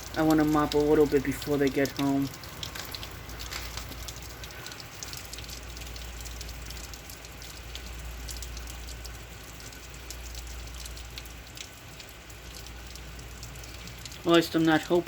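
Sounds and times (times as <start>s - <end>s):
heavy rain falling: 0.0s - 15.0s
low steady rumble: 0.0s - 15.0s.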